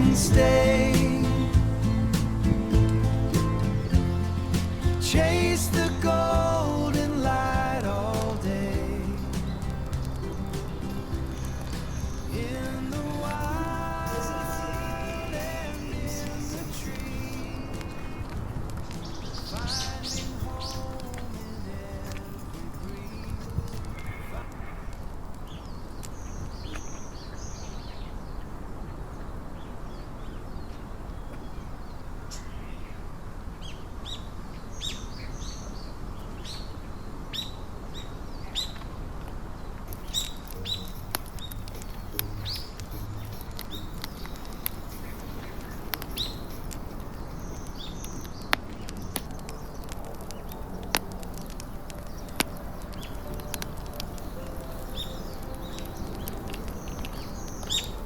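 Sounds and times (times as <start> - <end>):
outdoor background hiss: 0.0 - 58.0
small birds chirping: 0.0 - 58.0.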